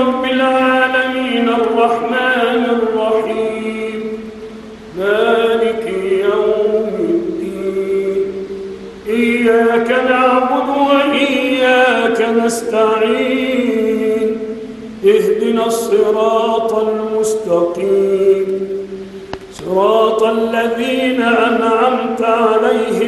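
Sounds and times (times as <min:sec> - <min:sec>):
man chanting: 0:00.0 - 0:04.3, 0:04.9 - 0:18.9, 0:19.5 - 0:23.0.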